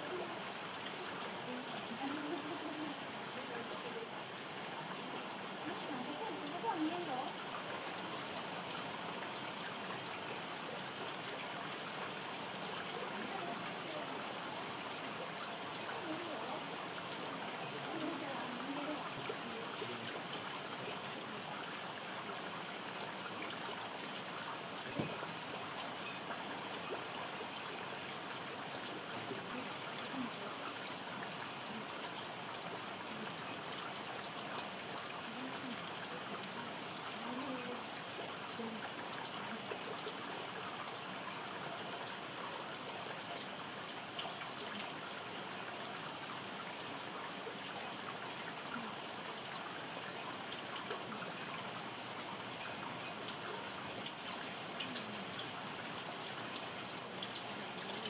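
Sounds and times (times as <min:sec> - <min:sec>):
rain falling and dripping: 0:00.0 - 0:58.0.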